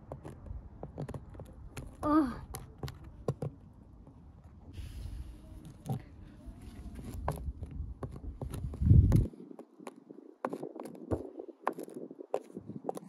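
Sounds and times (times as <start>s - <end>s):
plastic toys tapping on paving: 0.0s - 4.6s, 7.0s - 13.0s.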